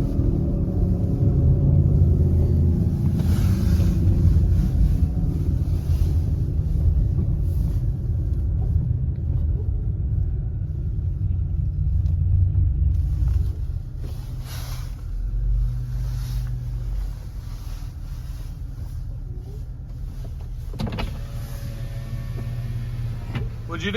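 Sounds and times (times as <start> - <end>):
low engine hum: 0.0 - 23.9
vehicle engine and road rumble: 0.0 - 23.9.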